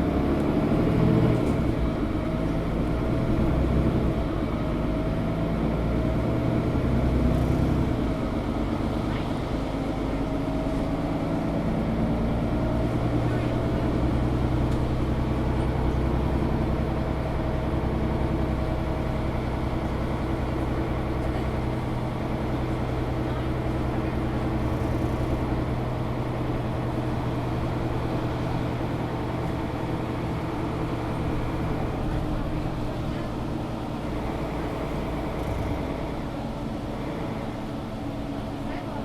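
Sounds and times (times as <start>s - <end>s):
bus diesel engine drone: 0.0s - 39.0s
road and rolling noise: 0.0s - 39.0s.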